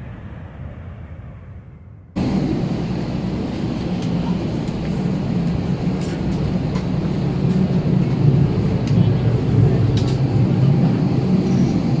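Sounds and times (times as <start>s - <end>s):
airplane cabin hum: 2.2s - 12.0s.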